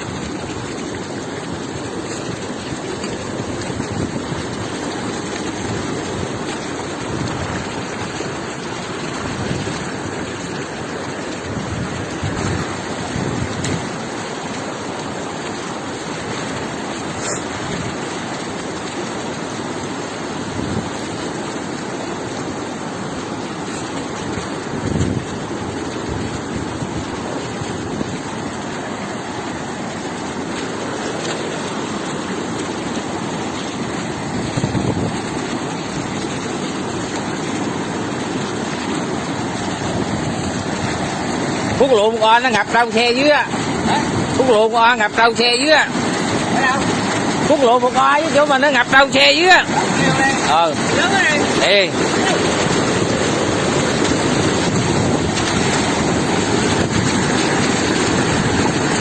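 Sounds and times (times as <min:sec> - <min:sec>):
flowing floodwater: 0:00.0 - 0:59.0
heavy rain: 0:00.0 - 0:59.0.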